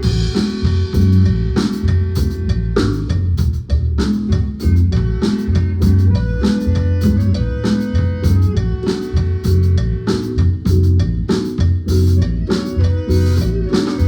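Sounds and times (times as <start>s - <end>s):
drum kit beat: 0.0s - 14.0s
low bass notes: 0.0s - 14.0s
marimba band playing: 0.0s - 14.0s.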